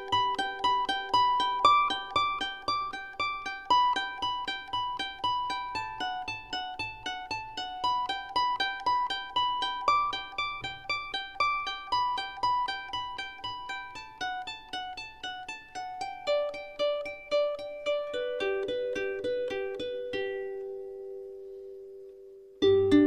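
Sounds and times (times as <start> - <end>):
plucked string instrument melody: 0.0 - 23.0.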